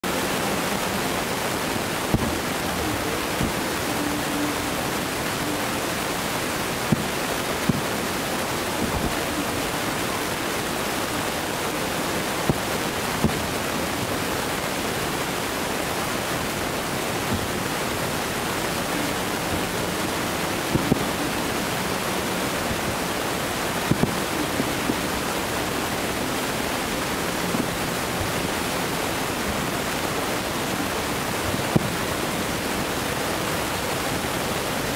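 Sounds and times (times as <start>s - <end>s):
steady rushing hiss: 0.0s - 34.9s
distant fireworks bursting: 0.2s - 34.3s.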